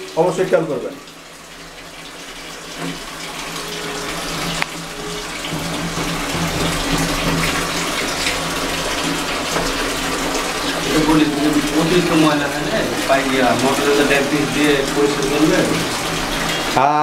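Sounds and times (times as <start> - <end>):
water rushing into washing machine: 0.0 - 17.0.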